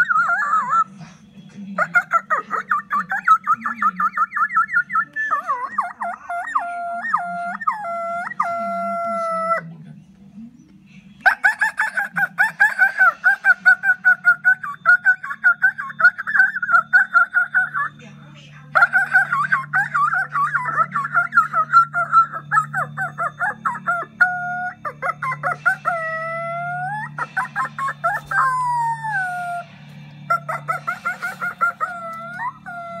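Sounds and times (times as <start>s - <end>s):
chicken clucking and cackling: 0.0s - 9.8s, 11.2s - 33.0s.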